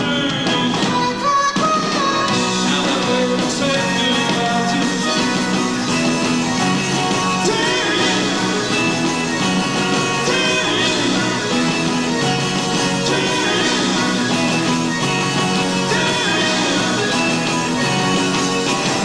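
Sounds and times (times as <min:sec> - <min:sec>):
rock and roll band music: 0:00.0 - 0:19.0.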